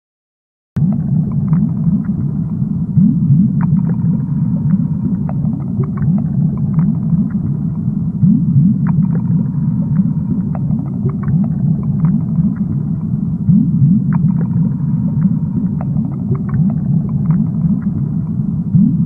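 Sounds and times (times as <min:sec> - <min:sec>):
low underwater rumble: 0:00.8 - 0:19.0.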